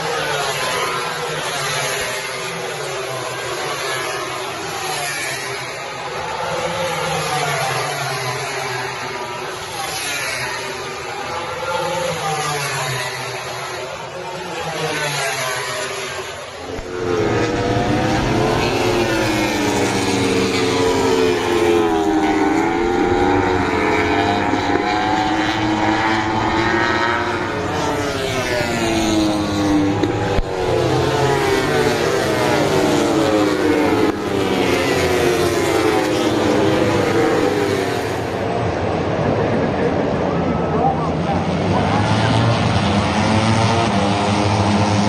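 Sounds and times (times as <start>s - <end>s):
racing motorcycle engines revving: 0.0s - 45.0s.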